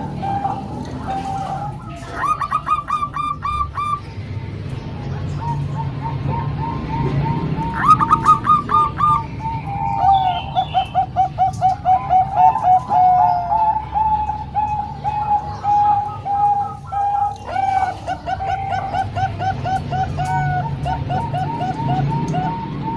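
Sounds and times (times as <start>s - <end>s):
doves cooing: 0.0s - 22.9s.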